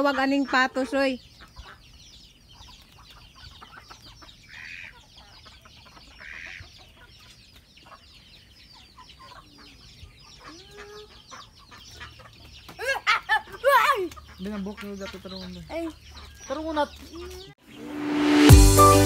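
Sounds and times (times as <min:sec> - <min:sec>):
chickens clucking: 0:00.0 - 0:17.6.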